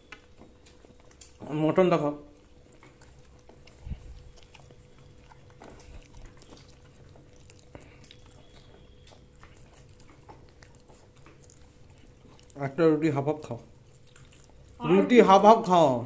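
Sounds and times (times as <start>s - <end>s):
chewing and biting: 0.0s - 15.1s.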